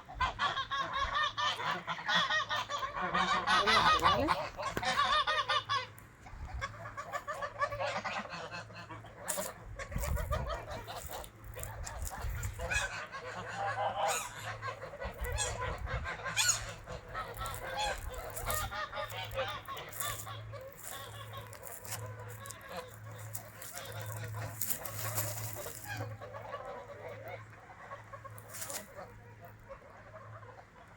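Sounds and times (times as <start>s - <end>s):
geese honking: 0.0s - 30.9s.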